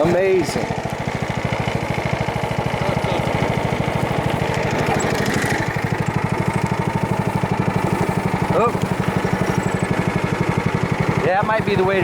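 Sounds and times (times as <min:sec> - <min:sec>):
riding lawn mower engine running: 0:00.0 - 0:12.0.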